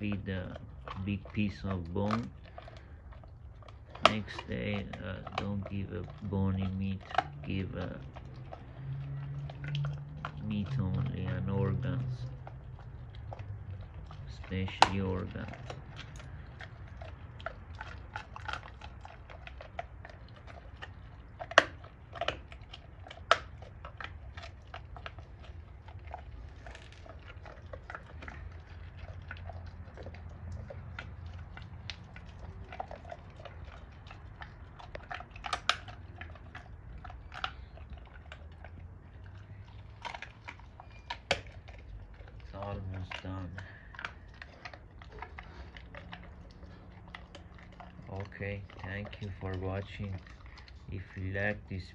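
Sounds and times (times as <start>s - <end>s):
bone cracking: 0.0s - 51.9s
dog chewing bone: 0.0s - 51.9s.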